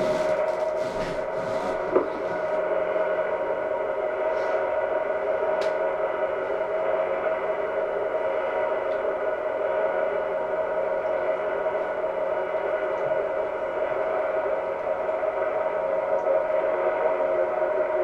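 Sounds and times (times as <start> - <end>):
droning hum: 0.0 - 18.0.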